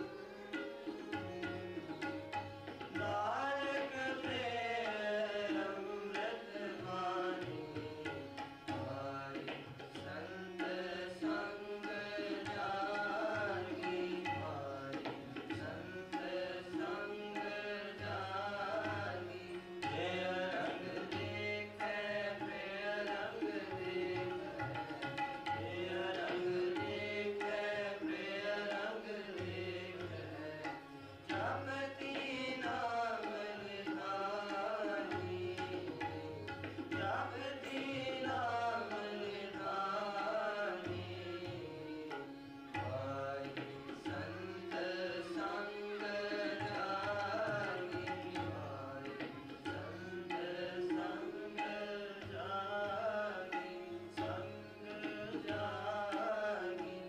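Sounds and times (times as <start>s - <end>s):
bowed string instrument: 0.0s - 57.0s
harmonium melody: 0.0s - 57.0s
tabla rhythm with bass strokes: 0.0s - 57.0s.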